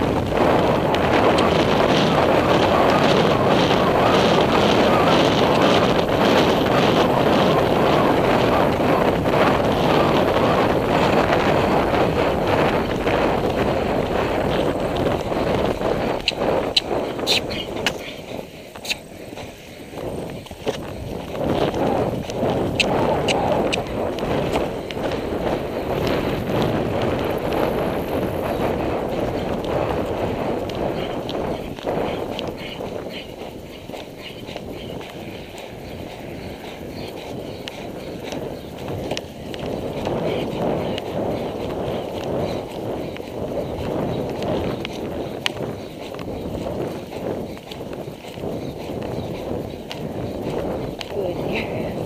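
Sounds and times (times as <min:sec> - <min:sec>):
hoofbeats on grass: 0:00.0 - 0:52.0
wind buffeting microphone: 0:00.0 - 0:52.0.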